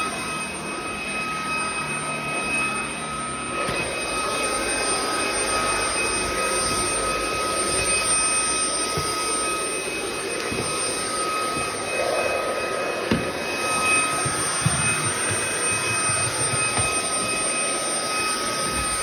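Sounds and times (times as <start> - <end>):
stick vacuum whining: 0.0 - 19.0.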